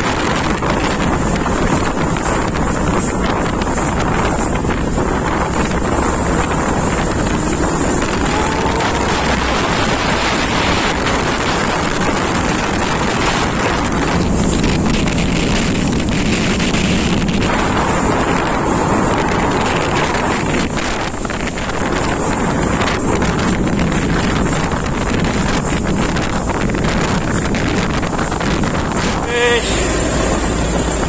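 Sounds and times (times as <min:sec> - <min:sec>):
passing traffic: 0:00.0 - 0:31.0
road noise: 0:00.0 - 0:31.0
truck engine noise: 0:00.0 - 0:31.0
wind buffeting microphone: 0:00.0 - 0:31.0.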